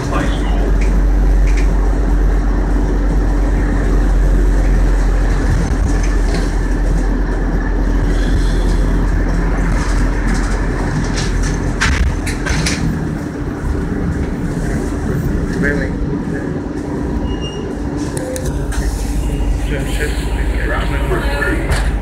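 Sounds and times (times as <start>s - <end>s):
bus engine drone: 0.0s - 22.0s
road noise: 0.0s - 22.0s.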